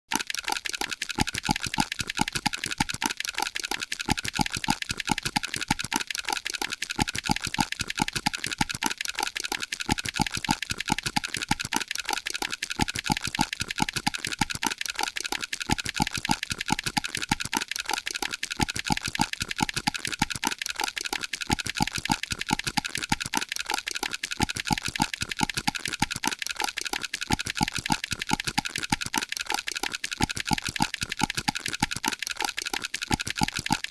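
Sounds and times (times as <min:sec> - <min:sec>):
rapid rhythmic clicking: 0:00.1 - 0:33.9.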